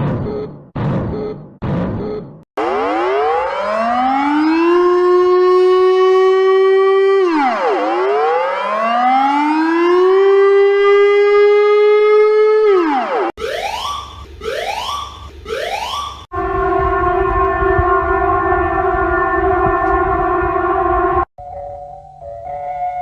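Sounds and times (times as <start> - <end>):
alarm with rising whoops: 2.6 - 21.3
civil defence siren wailing: 2.6 - 21.3.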